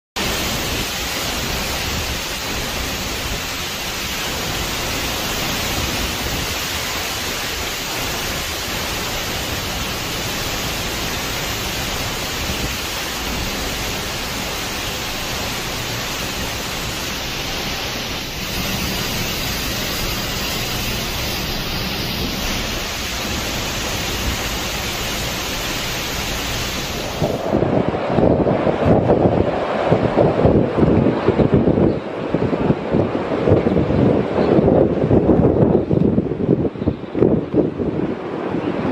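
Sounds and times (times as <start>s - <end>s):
strong wind: 0.2s - 38.9s
torrential rain: 0.2s - 38.9s.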